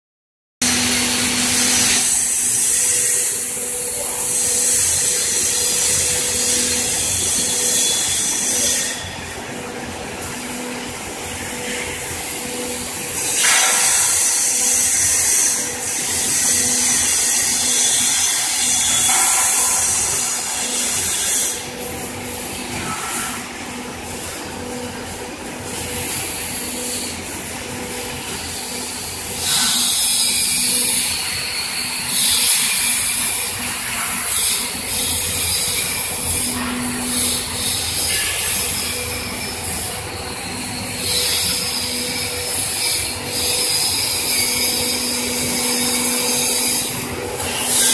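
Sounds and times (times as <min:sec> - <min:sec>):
machine hum: 0:00.6 - 0:47.9.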